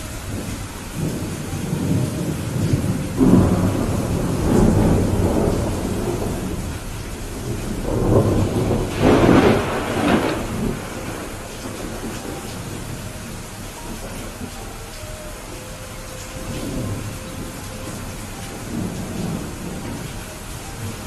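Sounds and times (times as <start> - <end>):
heavy rain: 0.0 - 21.0
rolling thunder: 0.0 - 21.0.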